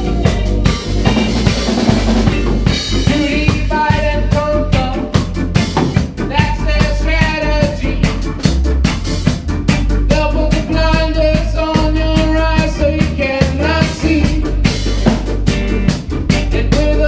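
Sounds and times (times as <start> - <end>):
drum kit beat: 0.0 - 17.0
heavy bass line: 0.0 - 17.0
reggae band playing: 0.0 - 17.0.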